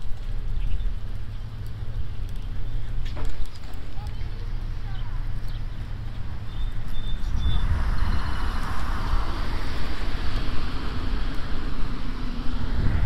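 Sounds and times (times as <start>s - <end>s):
passing vehicle road noise: 0.0s - 13.0s
wind rumbling on microphone: 0.0s - 13.0s.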